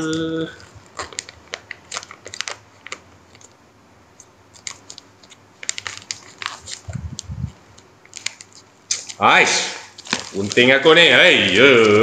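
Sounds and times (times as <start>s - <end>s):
package being opened by hand: 0.0s - 3.6s, 4.2s - 9.2s, 9.8s - 10.8s.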